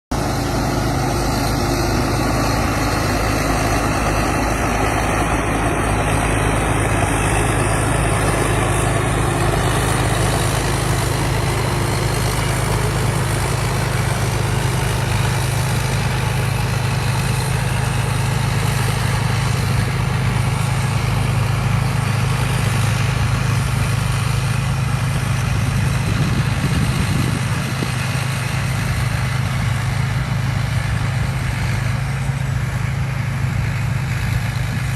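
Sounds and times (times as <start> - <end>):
diesel engine low hum: 0.1 - 34.9
machinery noise: 0.1 - 34.9.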